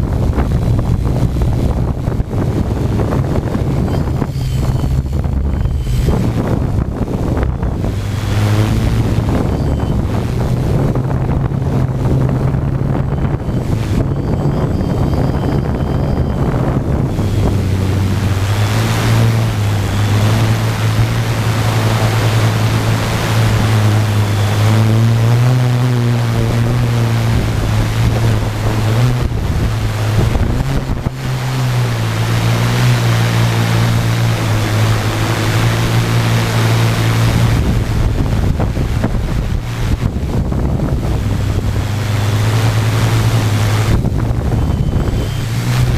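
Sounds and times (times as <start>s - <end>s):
drone motors humming: 0.0s - 45.9s
wind rumble on microphone: 0.0s - 45.9s.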